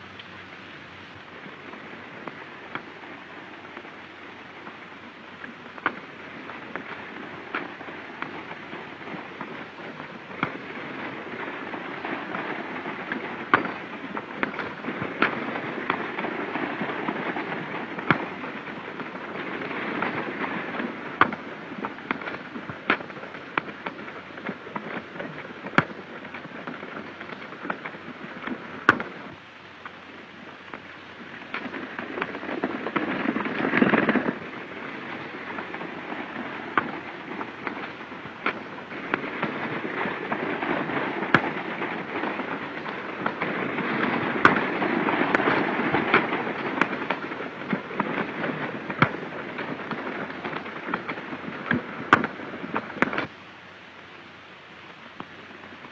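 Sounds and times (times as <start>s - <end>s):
steady hissing background: 0.0s - 55.9s.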